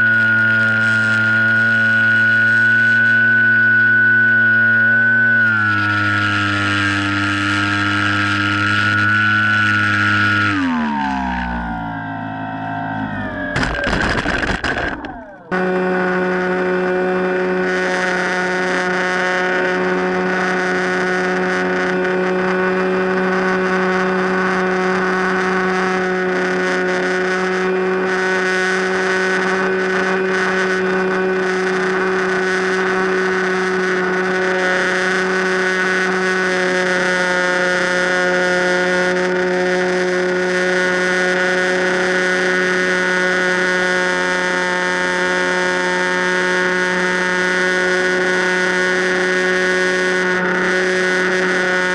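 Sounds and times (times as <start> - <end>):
electric motor and propeller hum: 0.0 - 51.9.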